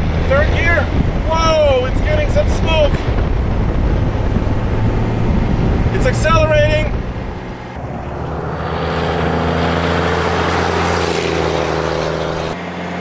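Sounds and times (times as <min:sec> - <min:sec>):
road noise: 0:00.0 - 0:13.0
truck engine droning: 0:00.0 - 0:13.0.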